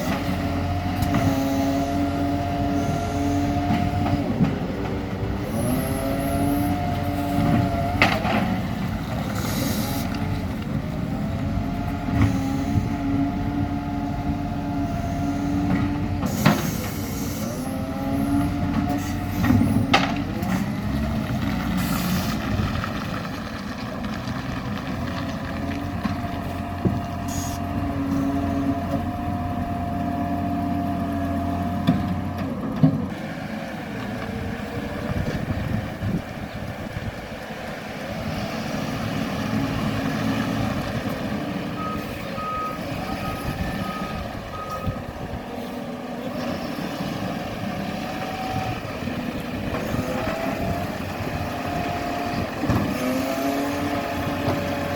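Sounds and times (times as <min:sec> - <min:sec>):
garbage truck whine: 0:00.0 - 0:54.9.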